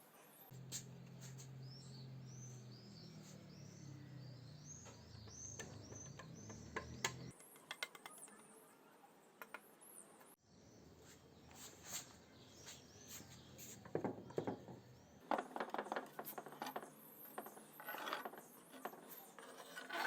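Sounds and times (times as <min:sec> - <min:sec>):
small birds chirping: 0:00.2 - 0:20.0.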